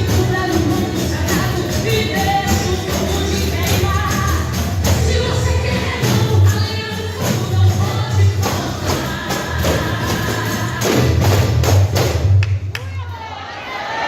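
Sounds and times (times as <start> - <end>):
person singing gospel song: 0.0 - 11.4
tambourine jingles: 0.0 - 11.6.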